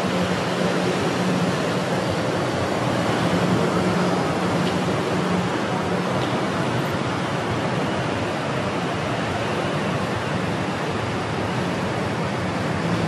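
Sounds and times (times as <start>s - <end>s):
street ambience rushing: 0.0s - 13.0s.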